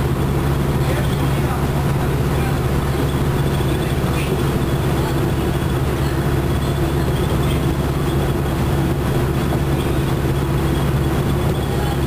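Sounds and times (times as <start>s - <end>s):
bus engine droning: 0.0s - 12.0s
tyre road noise: 0.0s - 12.0s.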